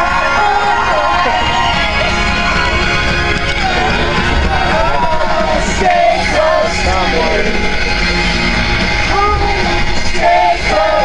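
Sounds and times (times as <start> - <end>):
pop-rock song with vocals: 0.0 - 11.0.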